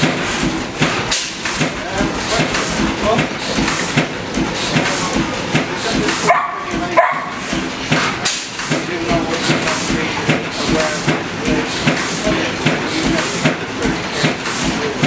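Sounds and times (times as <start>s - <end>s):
stationary engine running slow beat: 0.0s - 15.0s.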